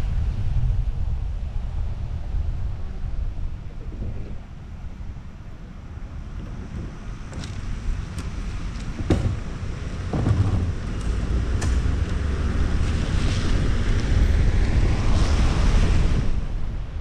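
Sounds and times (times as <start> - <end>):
wind buffeting microphone: 0.0 - 17.0
car driving on wet street: 1.0 - 17.0.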